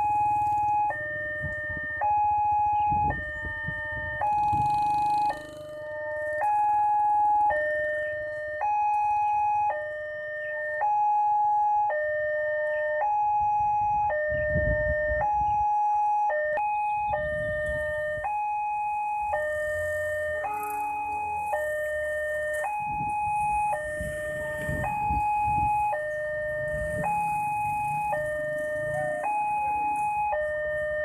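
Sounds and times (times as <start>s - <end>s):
vehicle rumbling past: 0.0s - 10.8s, 16.3s - 31.0s.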